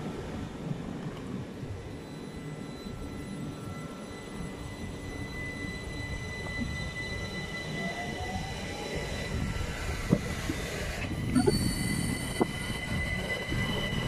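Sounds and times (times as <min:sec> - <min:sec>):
train rumbling: 0:00.0 - 0:14.0
high electric whine: 0:01.8 - 0:14.0
rising whine: 0:01.8 - 0:14.0.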